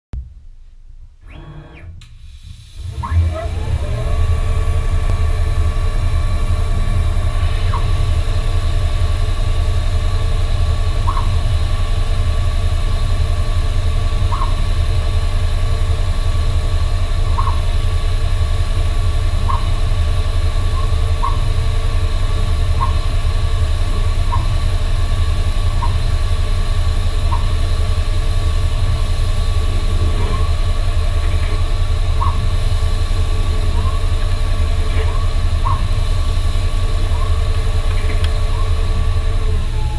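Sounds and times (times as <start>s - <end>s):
lathe humming and whining: 1.2s - 39.9s.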